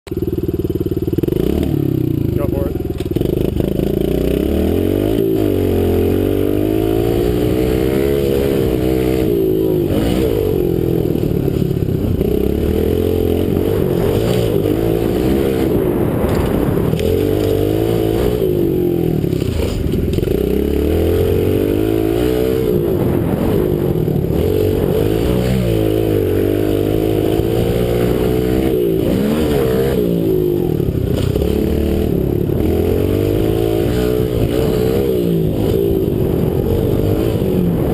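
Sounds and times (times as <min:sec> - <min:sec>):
small motorbike engine revving: 0:00.1 - 0:37.9.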